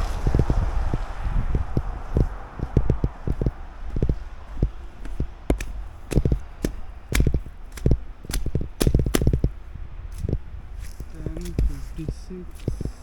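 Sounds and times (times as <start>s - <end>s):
footsteps crunching in snow: 0.0s - 13.0s.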